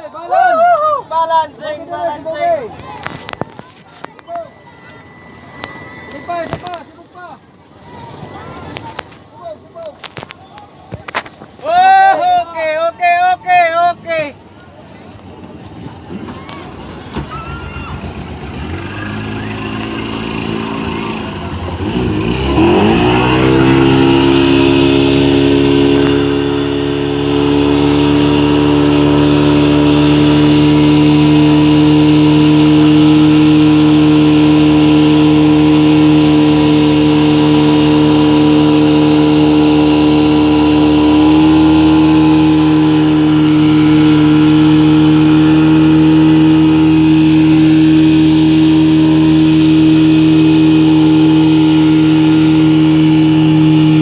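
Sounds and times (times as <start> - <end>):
speedboat engine revving: 1.5 - 14.5, 15.1 - 54.0.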